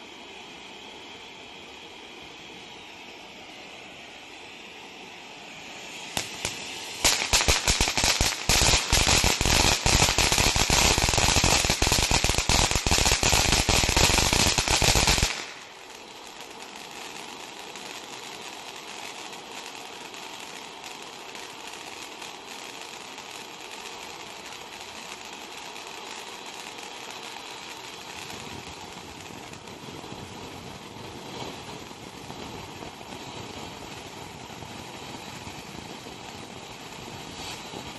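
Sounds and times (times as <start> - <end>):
firework fountain hissing: 0.0 - 37.9
rapid sharp firework crackles: 0.0 - 37.9.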